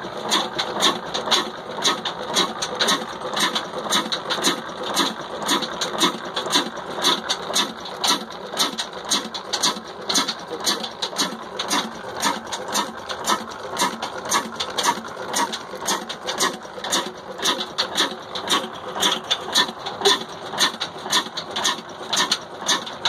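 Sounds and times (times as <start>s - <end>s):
diesel engine clattering: 0.0s - 23.0s.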